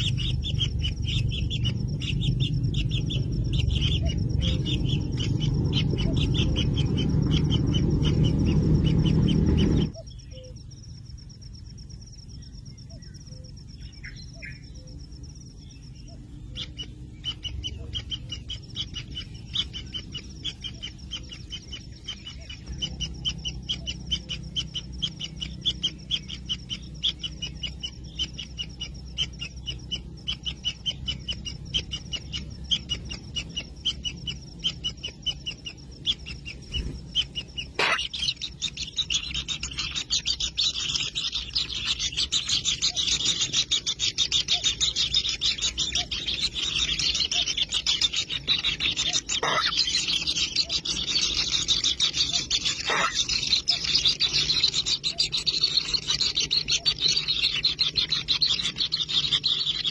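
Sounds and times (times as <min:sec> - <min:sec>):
nestlings calling: 0:00.0 - 0:59.9.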